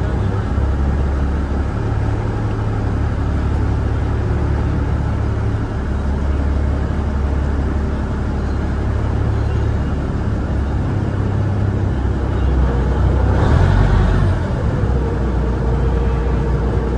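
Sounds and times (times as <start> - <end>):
ferry engine droning: 0.0 - 16.9.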